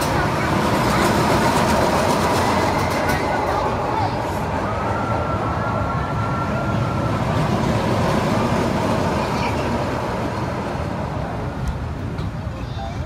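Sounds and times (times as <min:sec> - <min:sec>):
small train rumbling on track: 0:00.0 - 0:13.0.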